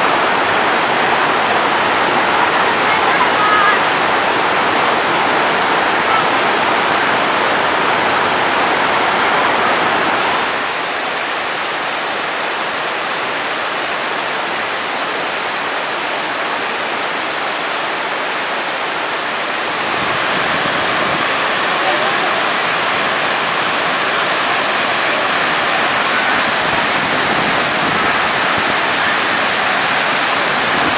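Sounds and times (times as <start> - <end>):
waterfall roar: 0.0 - 30.9.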